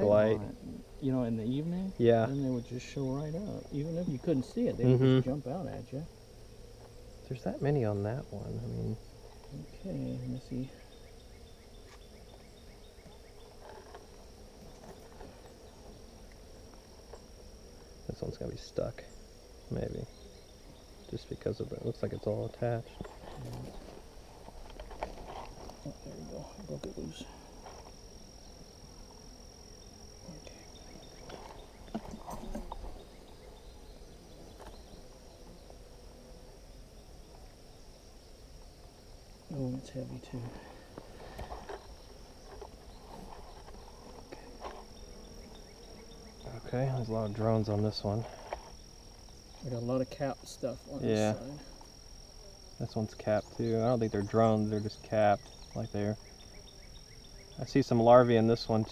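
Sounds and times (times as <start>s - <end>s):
bees buzzing: 0.0s - 58.9s
honeybees humming: 0.0s - 58.9s.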